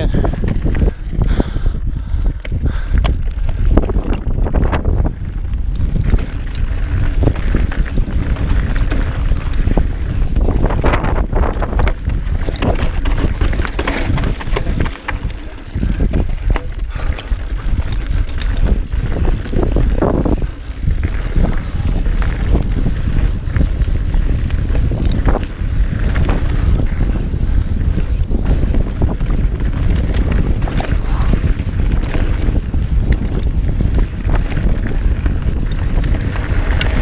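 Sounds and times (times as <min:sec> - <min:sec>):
bike clattering over bumps: 0:00.0 - 0:01.2, 0:02.3 - 0:37.0
wind buffeting microphone: 0:00.0 - 0:37.0.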